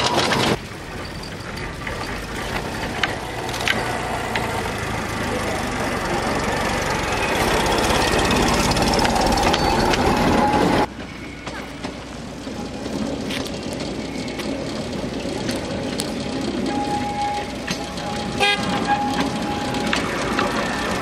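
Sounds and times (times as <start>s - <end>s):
rail motor car engine running: 0.0s - 21.0s.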